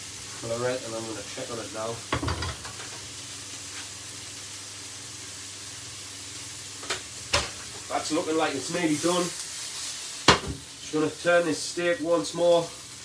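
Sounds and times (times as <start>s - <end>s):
steaks sizzling in a frying pan: 0.0s - 13.0s.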